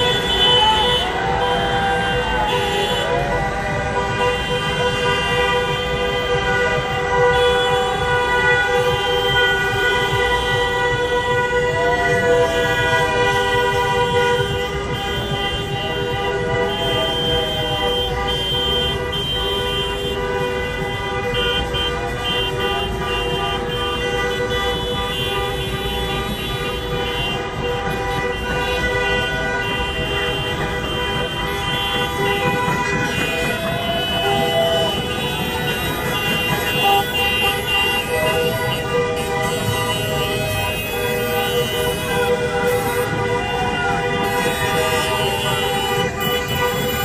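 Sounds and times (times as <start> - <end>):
car horns honking: 0.0 - 47.0.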